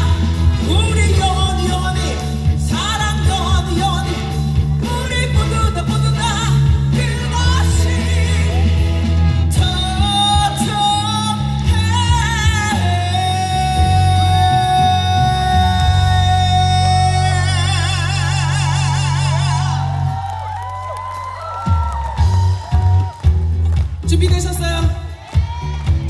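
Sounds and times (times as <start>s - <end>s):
rock band playing: 0.0s - 26.0s.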